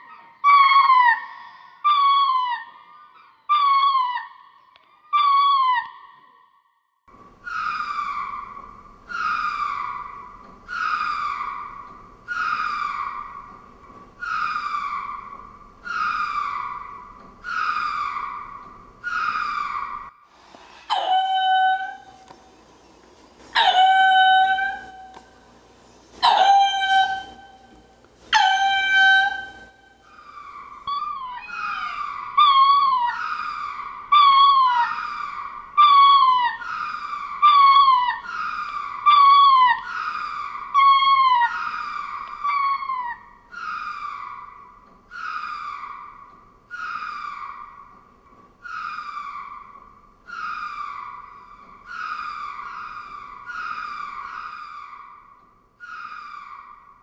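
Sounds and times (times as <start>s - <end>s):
lemurs calling: 7.4s - 20.1s, 20.8s - 22.3s, 23.5s - 25.6s, 26.2s - 48.0s, 48.6s - 57.0s.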